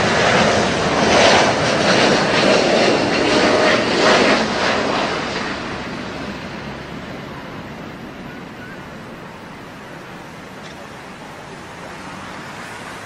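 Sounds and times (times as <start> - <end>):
jet airliner passing low: 0.0 - 13.0.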